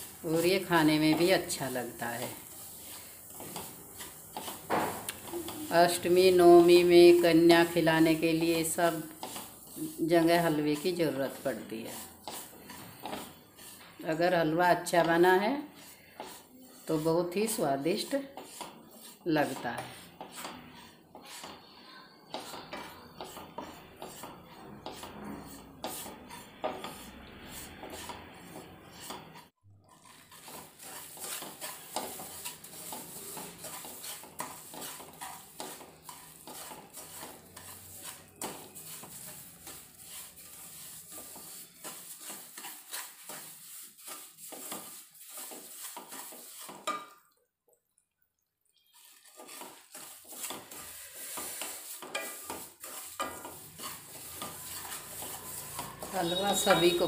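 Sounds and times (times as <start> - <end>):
spatula scraping metal pan: 0.0 - 47.2, 48.7 - 57.0.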